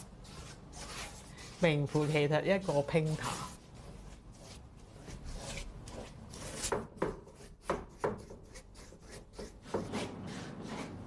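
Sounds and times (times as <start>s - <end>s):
paintbrush scrubbing on canvas: 0.0s - 11.0s.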